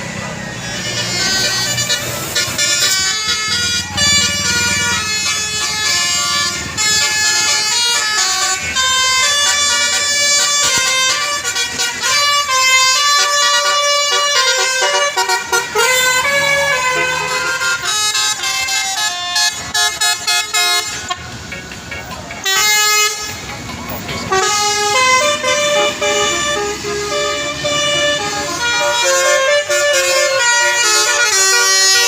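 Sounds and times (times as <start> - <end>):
multi-tone air horn melody: 0.0 - 32.0.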